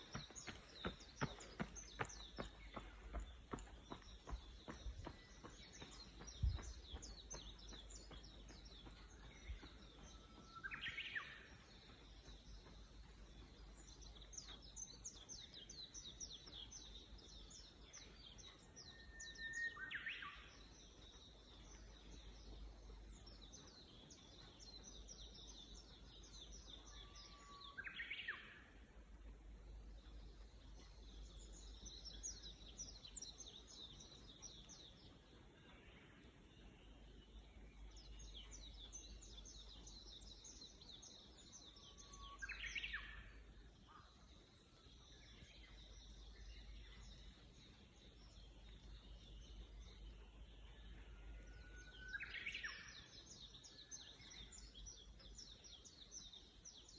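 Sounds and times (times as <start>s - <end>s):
birds chirping and twittering: 0.0s - 56.9s.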